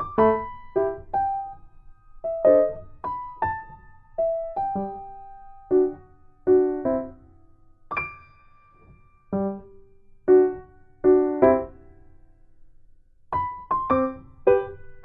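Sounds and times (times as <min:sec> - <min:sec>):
piano music: 0:00.0 - 0:12.2, 0:13.3 - 0:15.0.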